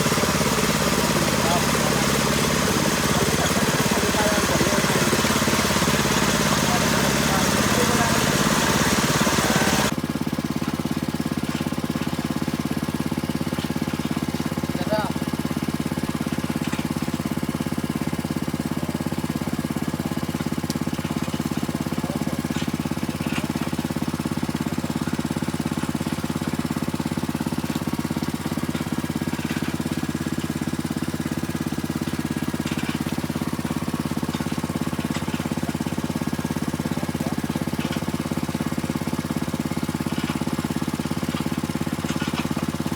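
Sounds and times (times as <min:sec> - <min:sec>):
drilling rig engine running: 0:00.0 - 0:42.9.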